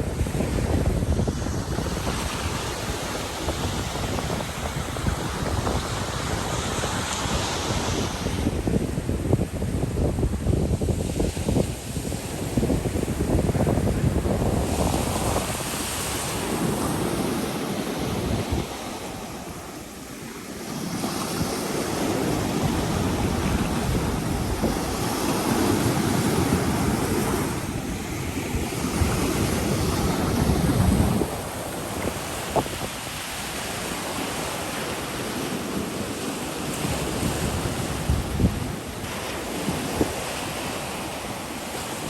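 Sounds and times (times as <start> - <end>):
wind rumbling on microphone: 0.0 - 35.4, 36.7 - 42.0
surf breaking on a beach: 0.0 - 42.0.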